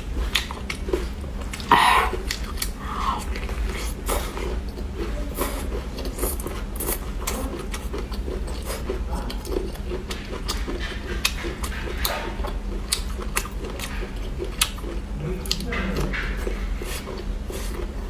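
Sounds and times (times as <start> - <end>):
crunching and chewing food: 0.0 - 18.0
steady low hum: 0.0 - 18.0.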